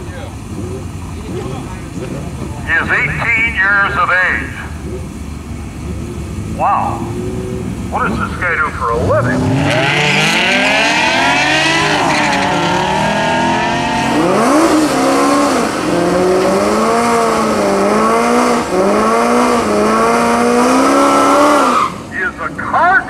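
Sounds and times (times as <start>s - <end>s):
cars accelerating hard: 0.0s - 23.0s.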